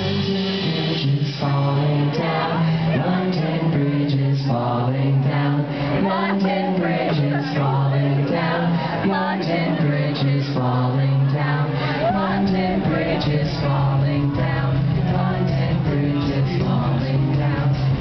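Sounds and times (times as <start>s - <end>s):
bass line: 0.0s - 18.0s
men singing: 0.0s - 18.0s.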